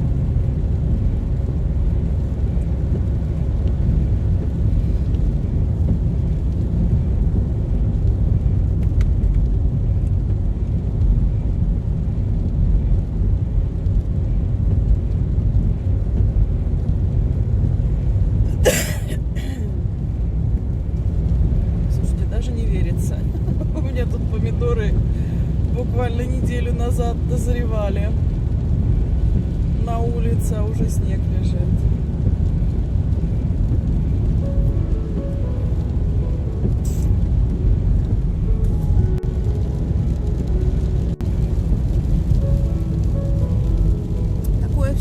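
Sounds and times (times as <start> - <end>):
car cabin road and engine rumble: 0.0 - 45.0.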